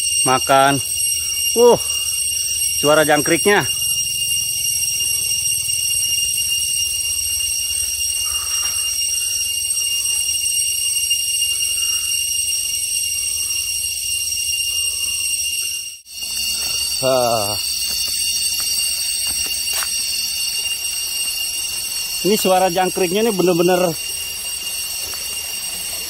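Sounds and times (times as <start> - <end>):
crickets chirping chorus: 0.0 - 26.0.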